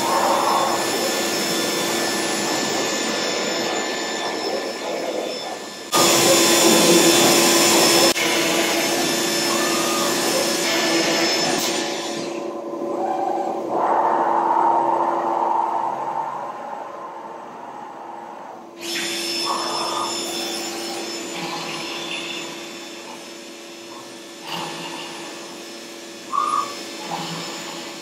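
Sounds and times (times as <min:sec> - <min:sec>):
router machine whirring: 0:00.0 - 0:13.9, 0:18.8 - 0:28.0.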